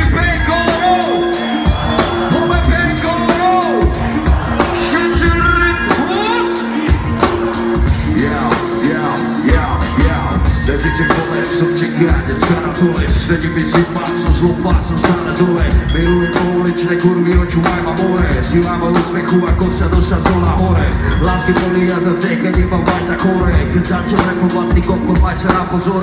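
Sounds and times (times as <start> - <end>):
drum-kit beat: 0.0 - 26.0
live band music through pa: 0.0 - 26.0.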